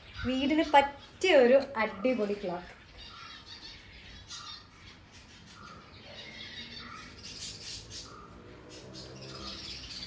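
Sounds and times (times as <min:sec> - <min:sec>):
small birds chirping and squawking: 0:00.0 - 0:10.0.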